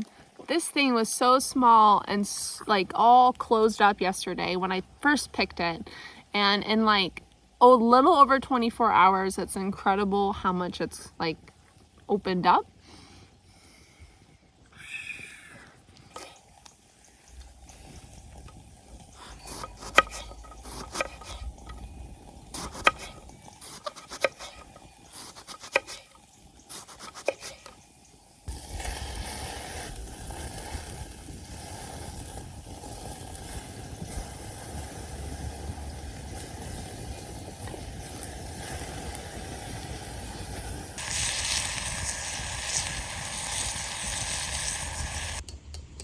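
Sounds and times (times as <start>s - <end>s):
rain hissing: 0.0s - 9.6s, 14.8s - 45.4s.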